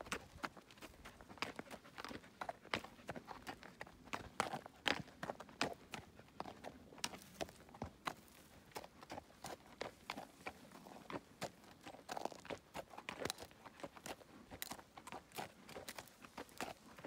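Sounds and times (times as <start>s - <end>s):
horse hooves on gravel: 0.0s - 17.0s.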